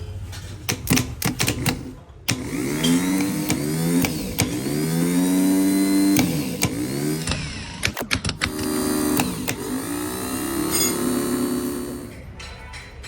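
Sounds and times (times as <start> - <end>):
starter motor clicks: 0.7 - 12.3
starter motor electric whine: 0.7 - 12.3.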